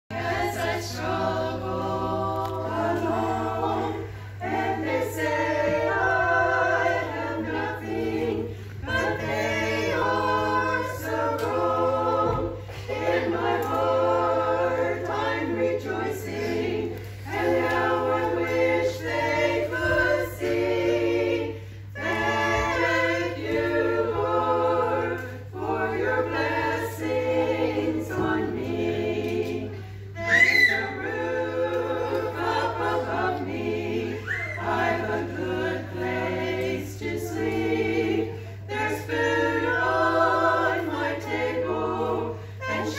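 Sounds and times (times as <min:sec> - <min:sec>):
choir of women singing: 0:00.0 - 0:42.9.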